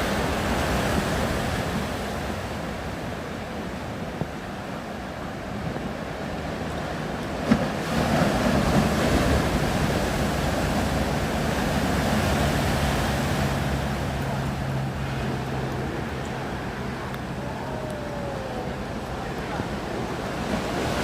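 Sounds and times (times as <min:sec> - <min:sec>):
rushing water: 0:00.0 - 0:21.0
wind: 0:00.0 - 0:21.0.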